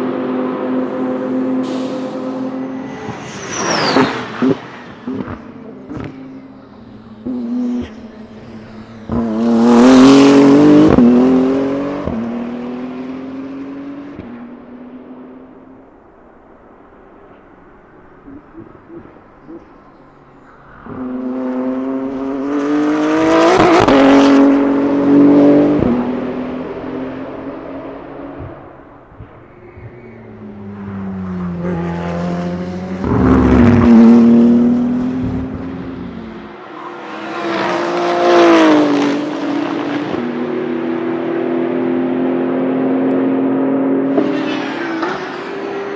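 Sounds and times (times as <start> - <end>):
race car passing: 0.0 - 45.9.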